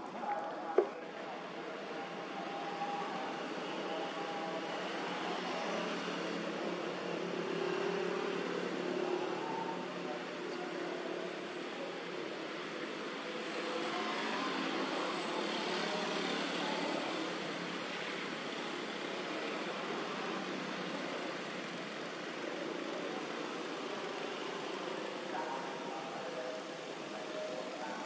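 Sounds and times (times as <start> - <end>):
distant motor traffic: 0.0 - 28.0.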